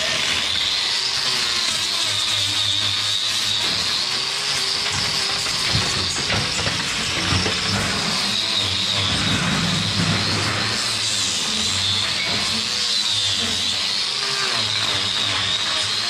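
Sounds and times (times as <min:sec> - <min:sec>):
angle grinder whining: 0:00.0 - 0:16.0.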